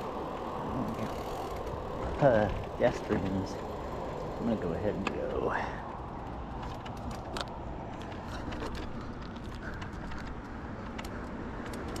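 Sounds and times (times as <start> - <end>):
bike riding rumble and rattles: 0.0 - 12.0.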